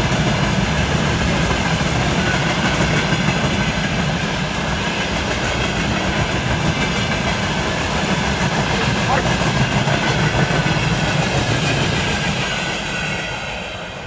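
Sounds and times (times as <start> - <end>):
train wheels rolling: 0.0 - 14.0.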